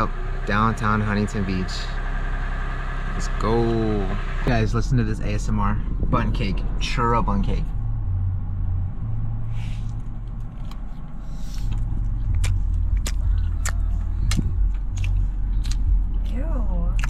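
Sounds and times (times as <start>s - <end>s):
car road and engine drone: 0.0s - 17.0s.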